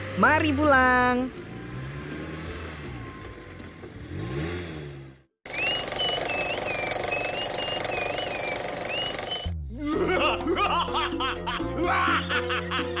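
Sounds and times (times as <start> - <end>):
truck engines humming: 0.0 - 13.0.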